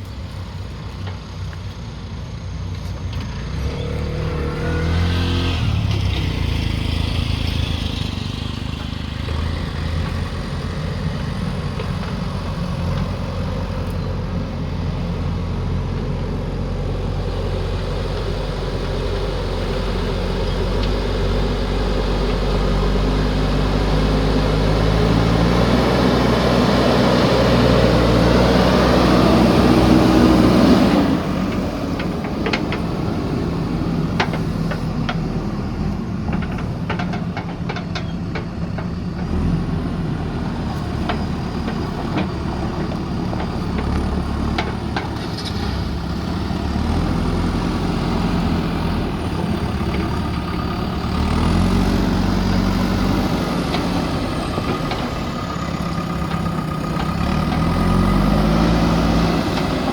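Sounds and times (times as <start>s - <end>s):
diesel engine of earthmoving machine: 0.0s - 59.9s.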